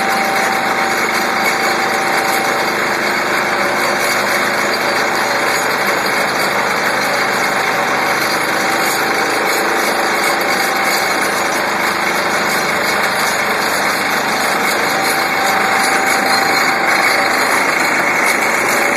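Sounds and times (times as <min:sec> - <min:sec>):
vibratory pile hammer drone: 0:00.0 - 0:18.9.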